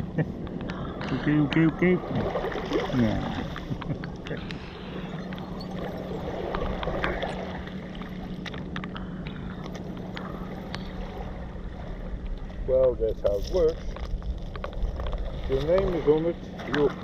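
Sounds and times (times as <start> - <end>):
boat engine hum: 0.0 - 17.0.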